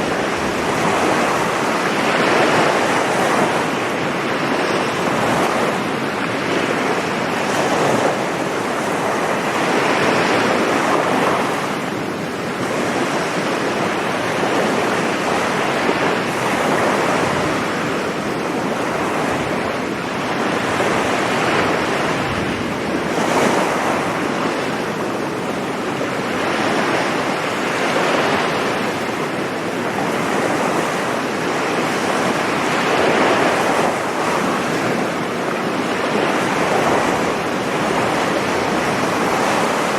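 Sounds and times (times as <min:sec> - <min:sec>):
sea surf breaking on beach: 0:00.0 - 0:39.9.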